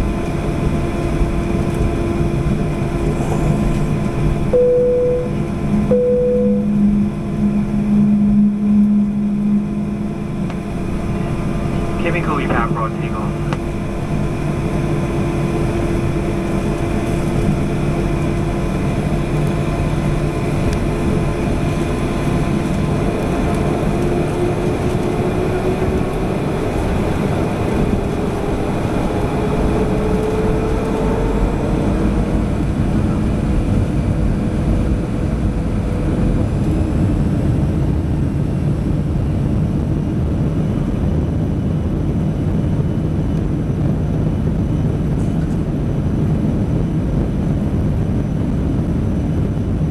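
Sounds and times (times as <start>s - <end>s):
airliner engines at takeoff: 0.0s - 49.9s.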